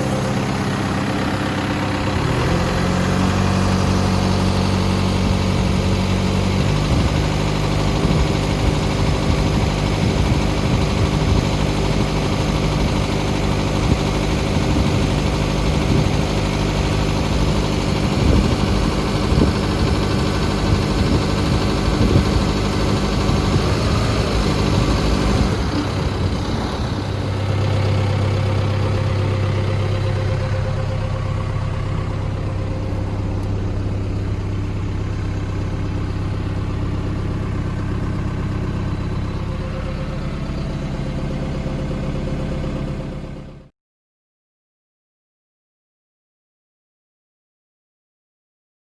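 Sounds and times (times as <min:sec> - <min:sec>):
tractor diesel engine running: 0:00.0 - 0:43.7.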